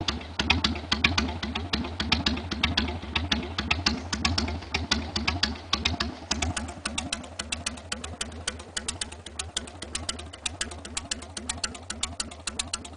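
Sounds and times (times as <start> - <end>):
exhaust cracks: 0.0 - 12.9
motorcycle engine idling: 0.0 - 12.9.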